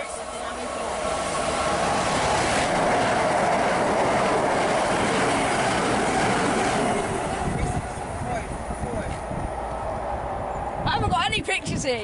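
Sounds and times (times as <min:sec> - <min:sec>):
passenger train passing at speed: 0:00.0 - 0:12.0.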